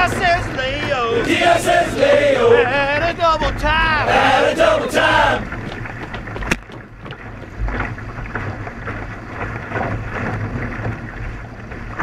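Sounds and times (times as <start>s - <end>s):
paddle strokes in water: 0.0s - 12.0s
water rushing along hull: 0.0s - 12.0s
wind buffeting microphone: 0.0s - 12.0s.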